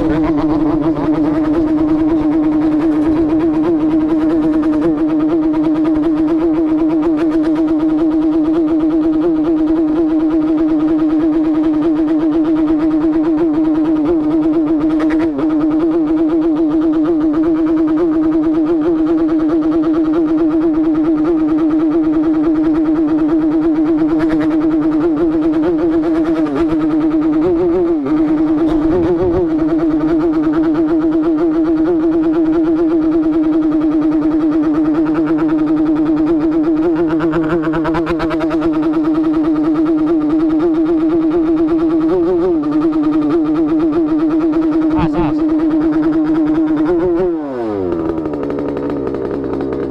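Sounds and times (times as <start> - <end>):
two-stroke motorcycle engine: 0.0 - 49.9.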